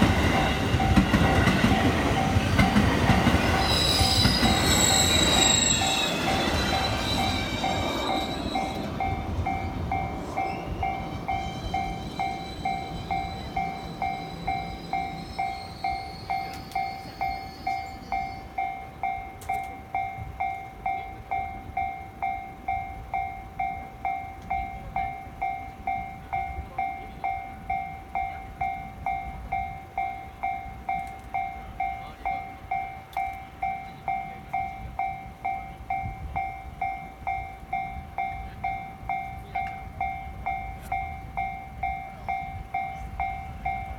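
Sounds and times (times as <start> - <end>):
railroad crossing bell ringing: 0.0 - 43.9
train rumble with whine: 0.0 - 43.9.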